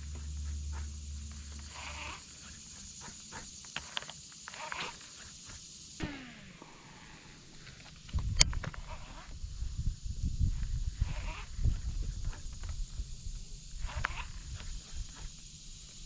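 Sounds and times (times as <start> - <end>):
low hum: 0.0 - 3.3, 6.0 - 16.0
insects buzzing: 0.0 - 16.0.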